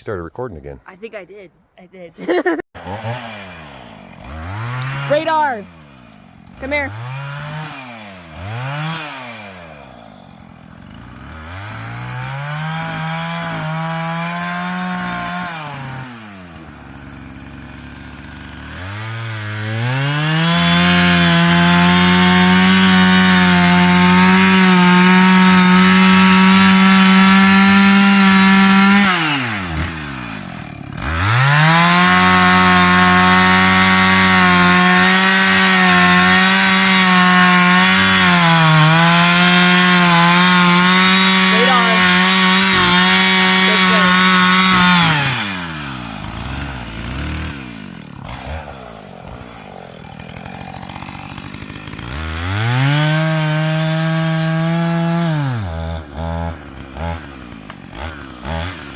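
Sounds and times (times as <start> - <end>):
chainsaw revving while cutting wood: 2.2 - 58.9.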